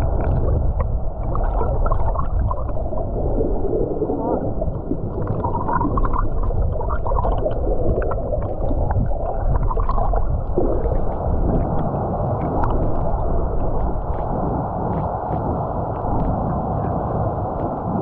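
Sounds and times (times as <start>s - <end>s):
muffled underwater river rushing: 0.0s - 18.0s.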